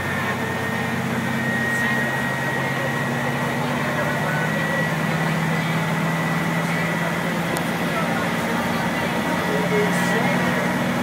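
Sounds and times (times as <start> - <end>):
bus engine drone: 0.0 - 11.0
turbo whine: 0.0 - 11.0.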